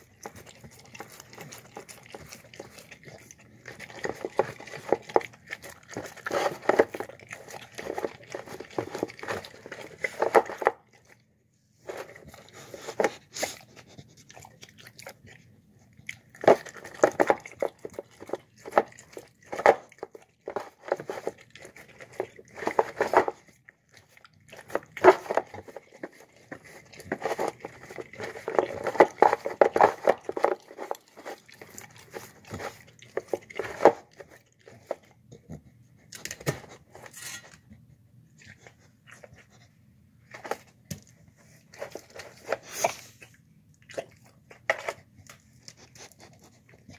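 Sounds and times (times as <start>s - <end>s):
dog chewing and licking: 0.0s - 46.9s.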